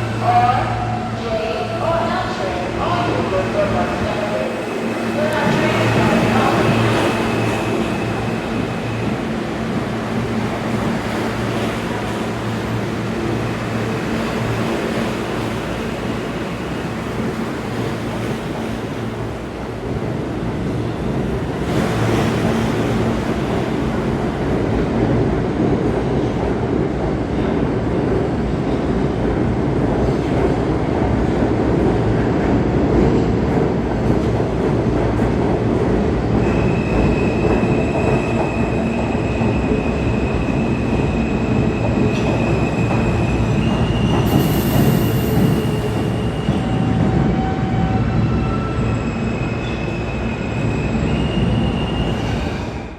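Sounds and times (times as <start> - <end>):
subway train rumbling on rails: 0.0 - 52.9.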